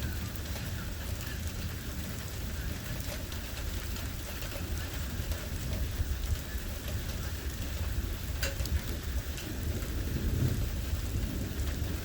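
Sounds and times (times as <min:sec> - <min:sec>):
low thunder rumble: 0:00.0 - 0:12.0
rain falling steadily: 0:00.0 - 0:12.0.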